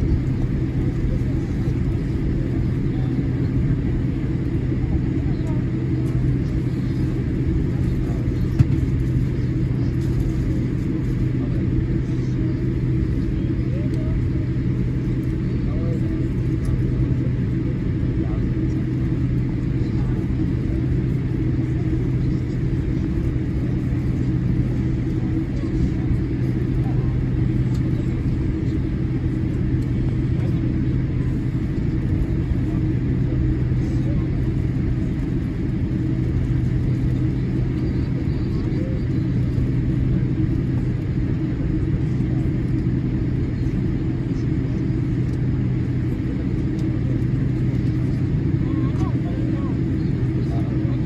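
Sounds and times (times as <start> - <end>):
aircraft engines rumbling: 0.0 - 51.0
steady low hum: 0.0 - 51.0.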